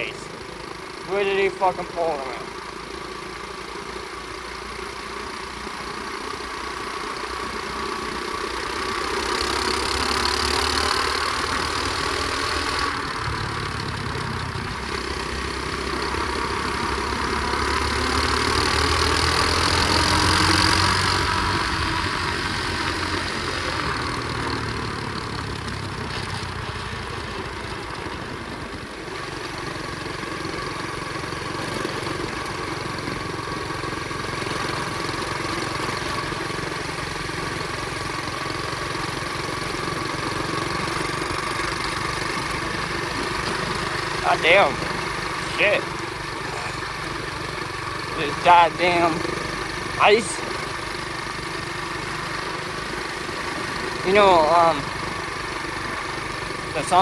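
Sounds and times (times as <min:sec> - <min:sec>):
motorbike engine running: 0:00.0 - 0:57.0.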